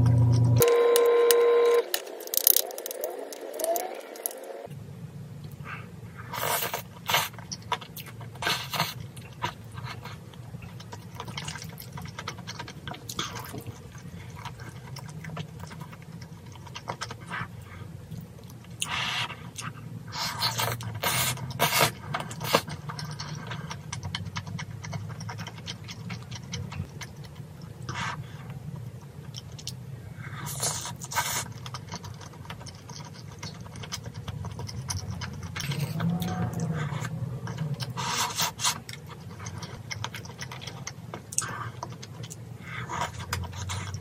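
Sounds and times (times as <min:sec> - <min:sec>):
chewing: 0:05.4 - 0:44.0.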